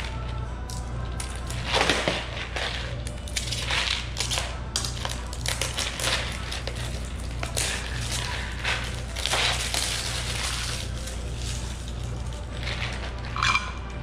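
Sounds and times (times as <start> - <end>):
plastic packaging crinkling: 0.0 - 13.8
steady low hum: 0.0 - 14.0.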